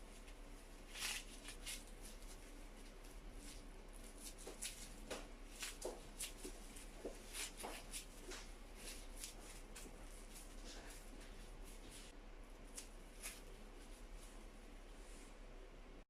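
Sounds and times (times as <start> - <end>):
crinkles and clicks of handling: 0.1 - 14.3.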